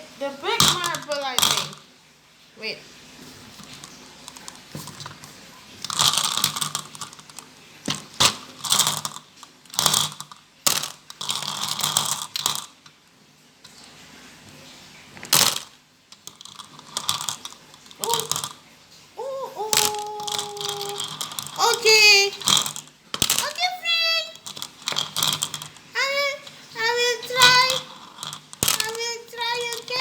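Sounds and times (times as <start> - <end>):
marbles clattering through tracks: 0.2 - 1.9, 3.5 - 13.0, 15.1 - 30.0.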